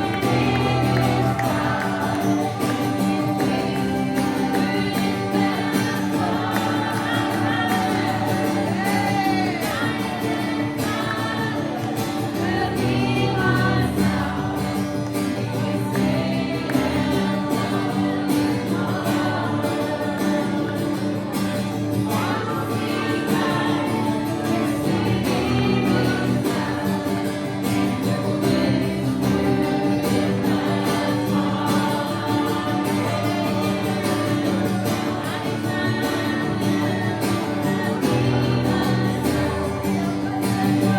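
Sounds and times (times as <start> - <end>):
voices singing worship song: 0.0 - 40.9.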